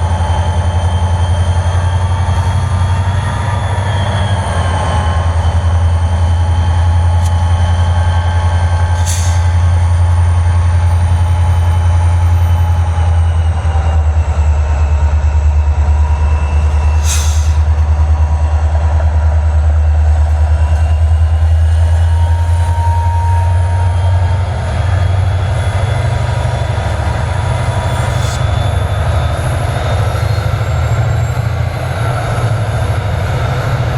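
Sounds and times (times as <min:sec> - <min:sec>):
freight train rumbling past: 0:00.0 - 0:33.9
wheels squealing: 0:00.0 - 0:33.9.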